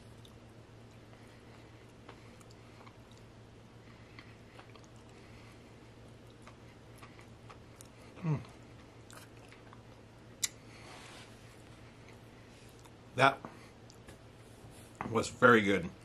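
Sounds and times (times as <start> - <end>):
quiet chewing: 0.0 - 10.8, 11.4 - 15.1.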